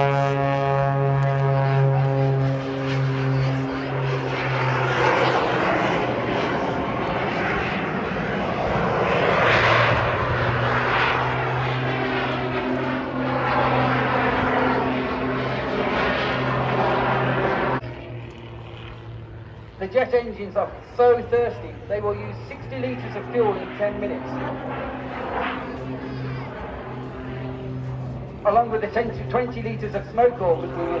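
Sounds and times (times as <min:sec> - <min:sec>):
propeller engine drone: 0:00.0 - 0:31.0.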